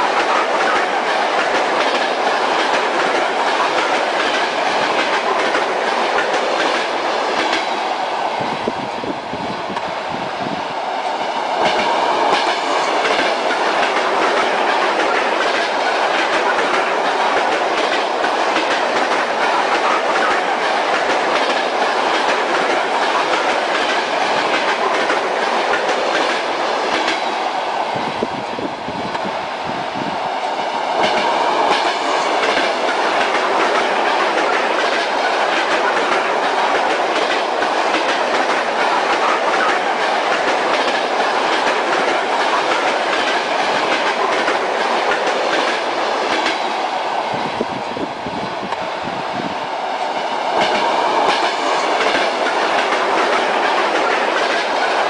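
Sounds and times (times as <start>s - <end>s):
wheels clickety-clack over rail joints: 0.0s - 7.9s, 11.5s - 28.4s, 30.3s - 55.0s
train rumbling on rails: 0.0s - 55.0s.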